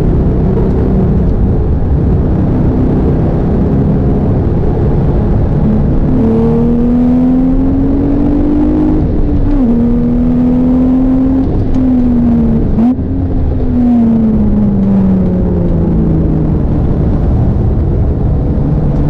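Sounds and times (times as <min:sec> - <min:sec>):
car engine revving under load: 0:00.0 - 0:19.0.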